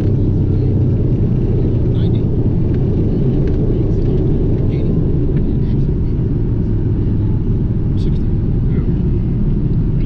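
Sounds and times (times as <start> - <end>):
jet low rumble: 0.0 - 10.0.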